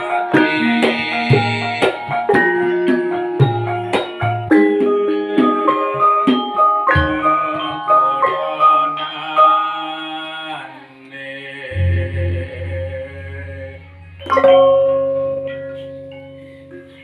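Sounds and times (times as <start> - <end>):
gamelan ensemble playing: 0.0 - 10.8, 11.7 - 17.0.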